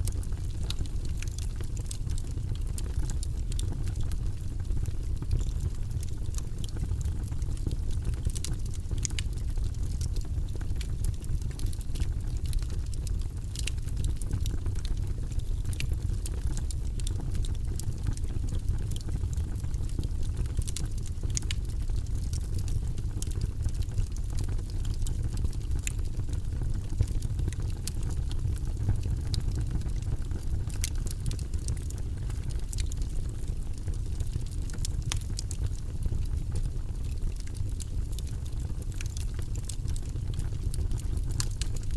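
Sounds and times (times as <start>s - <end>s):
fire crackling and rumbling: 0.0s - 41.9s.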